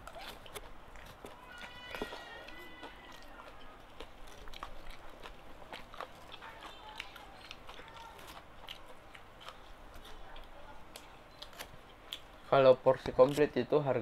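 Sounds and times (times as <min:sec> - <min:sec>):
person chewing food: 0:00.0 - 0:13.5.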